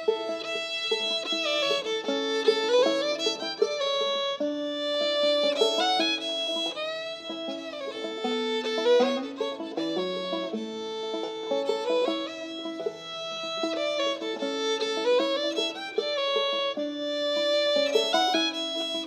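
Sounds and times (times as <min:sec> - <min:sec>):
fiddle playing: 0:00.0 - 0:19.0.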